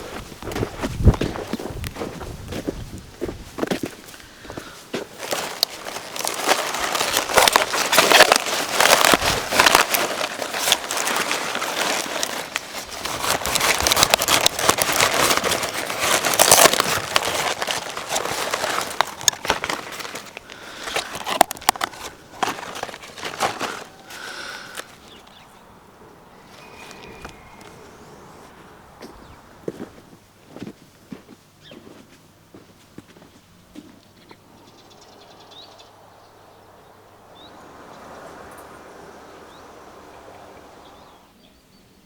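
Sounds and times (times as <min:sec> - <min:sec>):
dry crackling and rustling: 0:00.0 - 0:25.6, 0:26.2 - 0:34.4.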